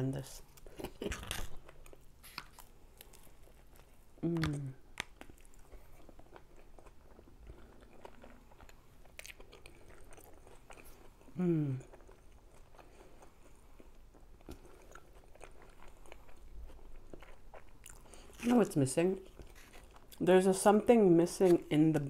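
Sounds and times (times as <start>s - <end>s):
person chewing crunchy food: 0.4s - 20.2s.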